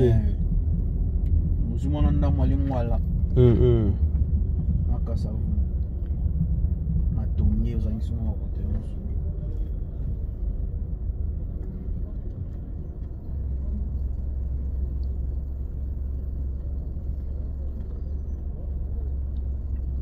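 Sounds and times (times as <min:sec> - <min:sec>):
low rumble of street noise: 0:00.0 - 0:20.0.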